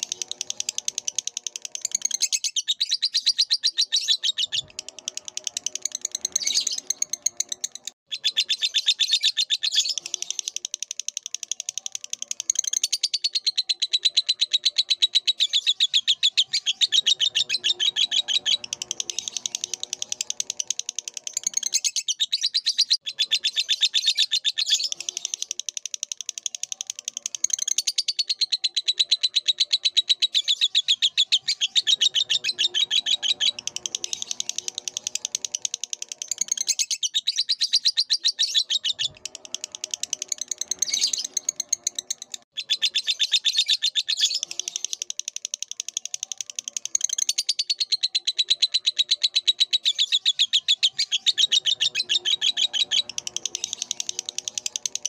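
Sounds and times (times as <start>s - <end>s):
bird chattering song: 0.0s - 55.0s.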